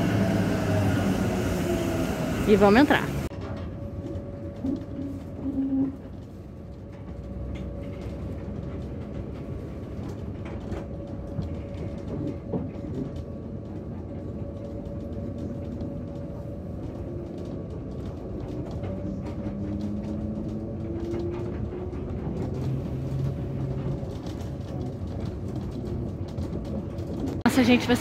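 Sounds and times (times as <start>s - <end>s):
tram rumble: 0.0s - 28.0s.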